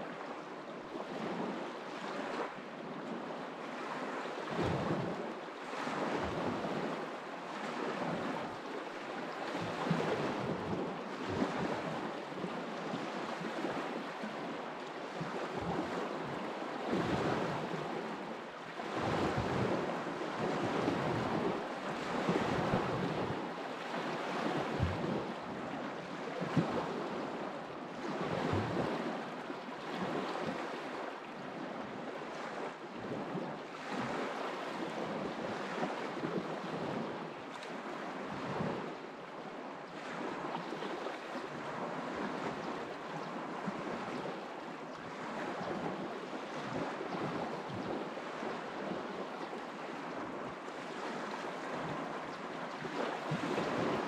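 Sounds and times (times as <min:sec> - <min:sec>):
wind buffeting the microphone: 0:03.8 - 0:14.5, 0:15.1 - 0:39.0, 0:45.0 - 0:54.0.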